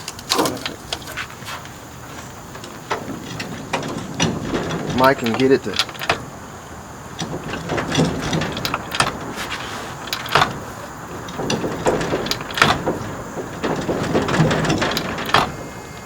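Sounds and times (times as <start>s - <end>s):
clicks and knocks: 0.0s - 16.0s
steady background noise: 0.0s - 16.0s.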